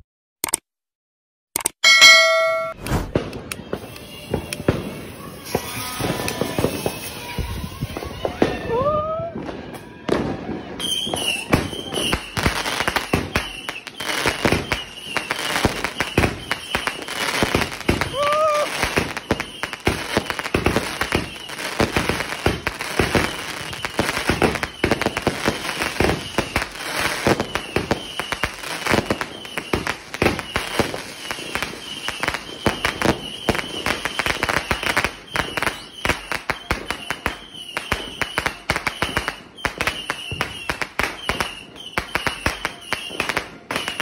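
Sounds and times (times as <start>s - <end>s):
firework pops and bangs: 2.8s - 44.0s.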